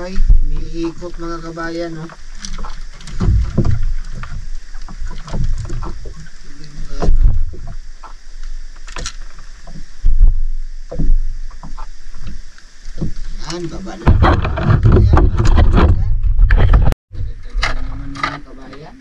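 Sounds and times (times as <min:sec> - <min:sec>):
low thumps and knocks: 0:00.0 - 0:18.1
water sloshing against boat: 0:00.0 - 0:19.0.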